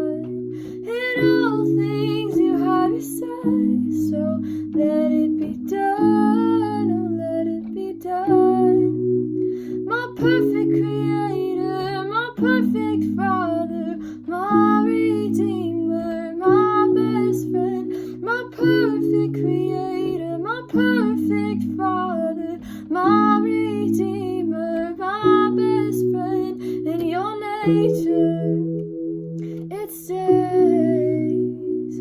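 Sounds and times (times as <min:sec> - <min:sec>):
woman singing: 0:00.0 - 0:09.0, 0:09.7 - 0:28.8, 0:29.6 - 0:32.0.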